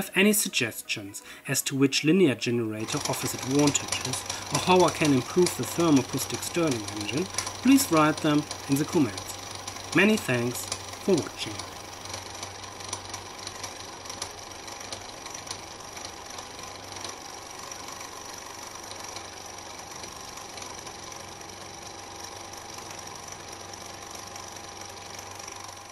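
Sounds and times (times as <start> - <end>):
engine mechanical whirr: 2.8 - 25.9.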